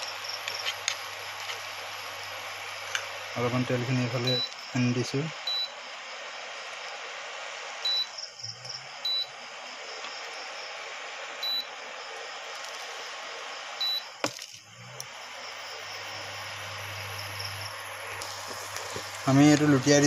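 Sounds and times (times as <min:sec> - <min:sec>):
omelette sizzling in pan: 0:00.0 - 0:03.9, 0:05.6 - 0:20.0.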